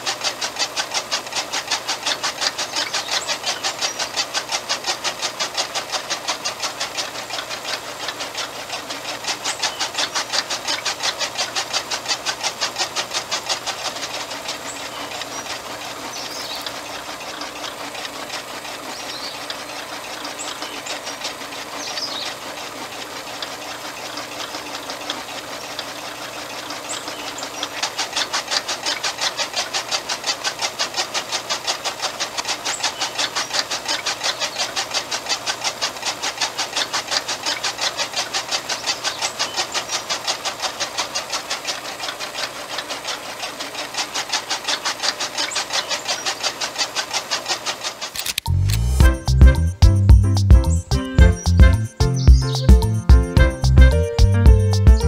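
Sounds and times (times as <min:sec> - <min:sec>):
small motor spinning chaff cutter: 0:00.0 - 0:49.8.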